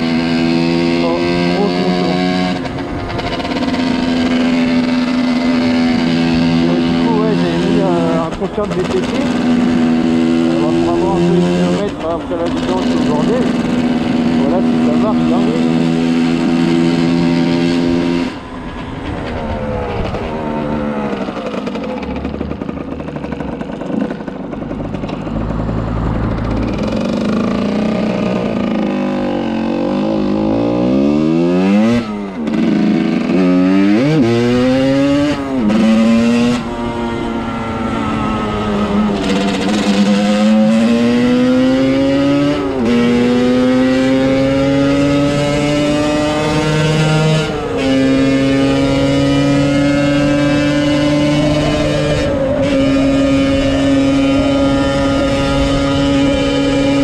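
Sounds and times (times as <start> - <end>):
motorcycle engine accelerating: 0.0 - 57.0
second engine passing: 0.0 - 57.0.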